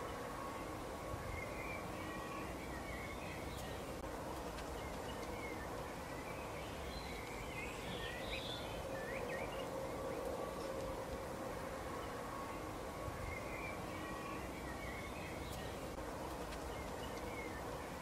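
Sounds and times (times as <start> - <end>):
songbirds twittering: 0.0 - 18.0
steady low hum: 0.0 - 18.0.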